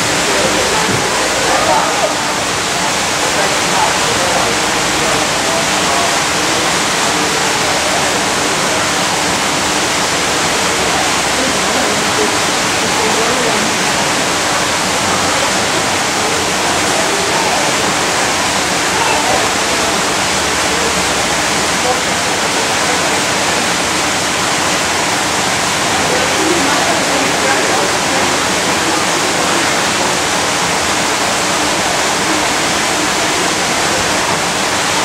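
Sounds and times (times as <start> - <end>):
faint voices: 0.0 - 35.0.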